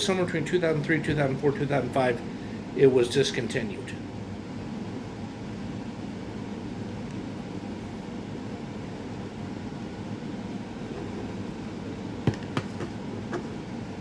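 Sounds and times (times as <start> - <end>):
fan or air conditioner hum: 0.0 - 14.0.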